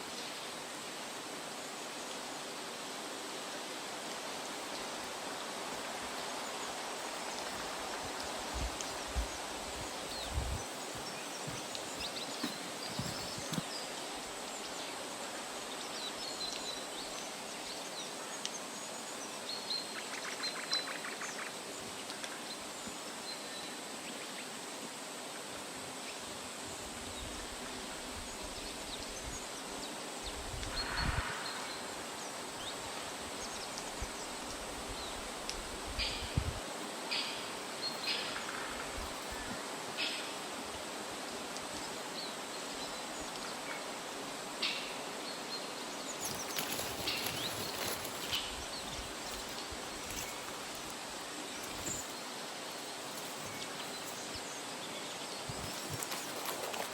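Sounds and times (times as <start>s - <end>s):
steady rushing hiss: 0.0s - 19.6s, 23.8s - 56.9s.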